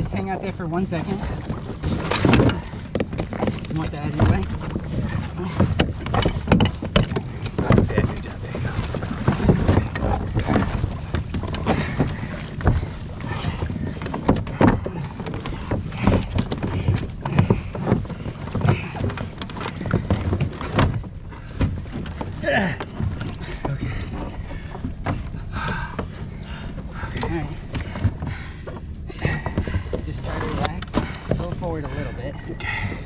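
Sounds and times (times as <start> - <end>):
low steady rumble: 0.0 - 33.0
plastic kayak hulls knocking: 0.0 - 33.0.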